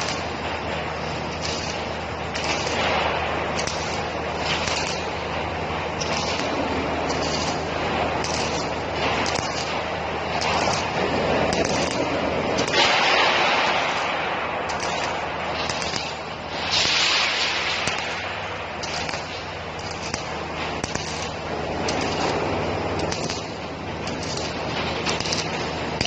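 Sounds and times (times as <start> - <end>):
hissing crackling welding: 0.0 - 26.0
welding machine humming: 0.0 - 26.0.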